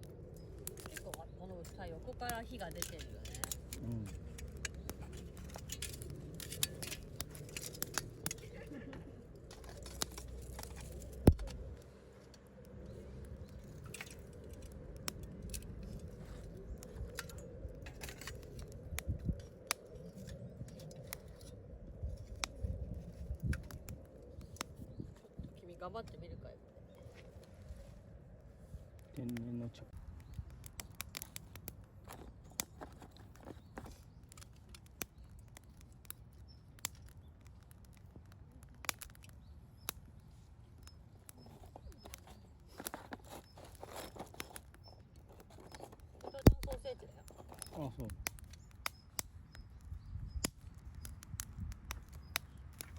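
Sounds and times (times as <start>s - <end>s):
campfire crackling and popping: 0.0s - 52.9s
low rush of flames: 0.0s - 52.9s.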